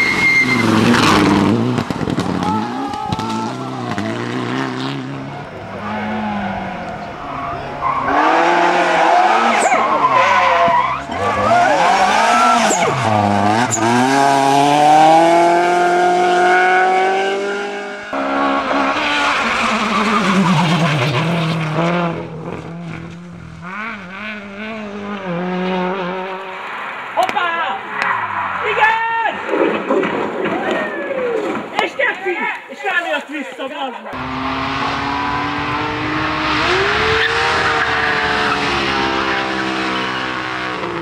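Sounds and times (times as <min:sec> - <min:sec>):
race car engine revving: 0:00.0 - 0:27.2, 0:34.1 - 0:41.0
tyres skidding: 0:00.0 - 0:33.0, 0:34.0 - 0:41.0.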